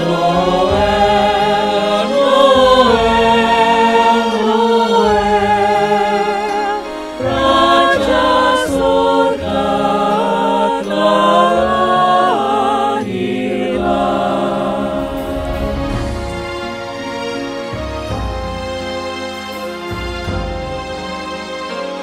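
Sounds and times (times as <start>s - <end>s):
mixed choir singing: 0.0s - 17.7s.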